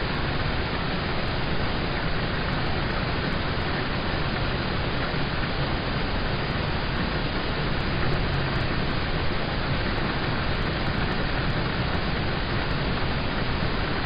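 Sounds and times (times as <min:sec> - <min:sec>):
rain on a car heard from inside: 0:00.0 - 0:14.0.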